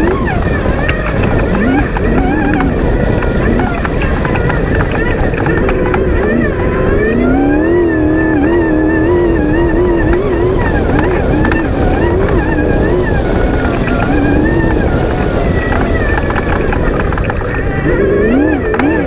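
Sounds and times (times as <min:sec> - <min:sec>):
race buggy engine revving: 0:00.0 - 0:19.0.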